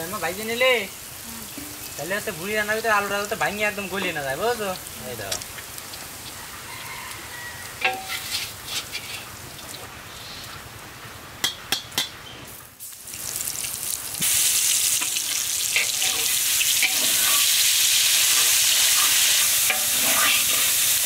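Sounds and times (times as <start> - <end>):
oil sizzling and spitting: 0.0 - 10.7, 12.5 - 21.0.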